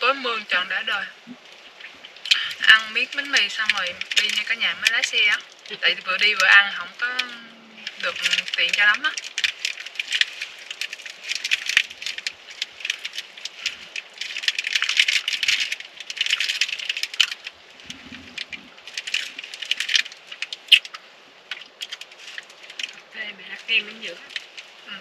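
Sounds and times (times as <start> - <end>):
plastic wrapper crinkling: 0.2 - 24.9.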